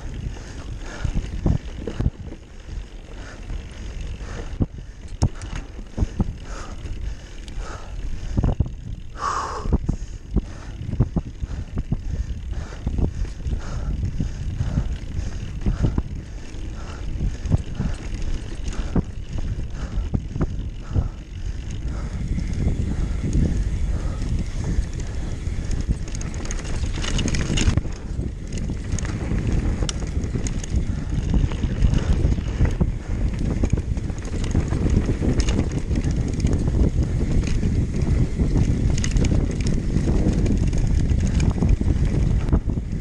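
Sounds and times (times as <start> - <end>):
bike rattling: 0.0 - 43.0
wind rushing over microphone: 0.0 - 43.0.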